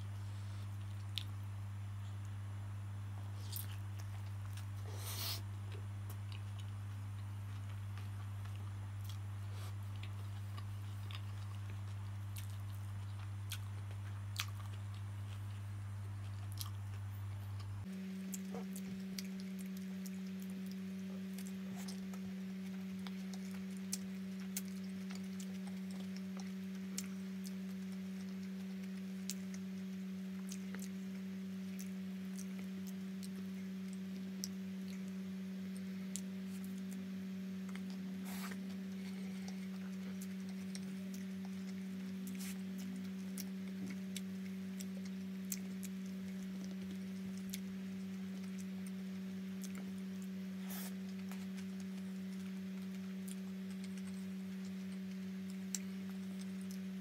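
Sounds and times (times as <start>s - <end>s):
steady low hum: 0.0s - 57.0s
person chewing: 0.4s - 1.4s, 3.2s - 57.0s.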